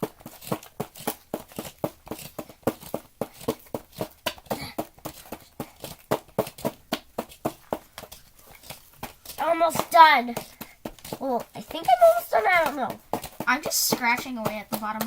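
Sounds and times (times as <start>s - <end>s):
digging tool scraping chalky block: 0.0s - 15.0s.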